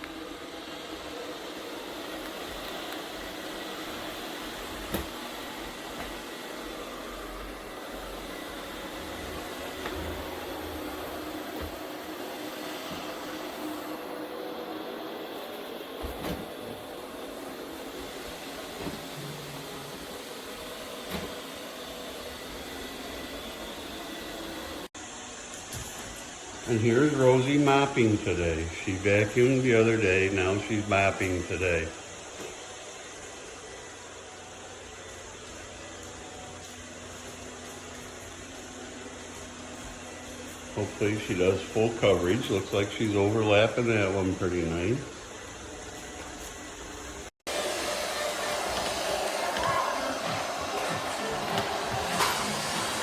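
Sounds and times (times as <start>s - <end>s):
robot vacuum motor and brush hum: 0.0s - 53.0s.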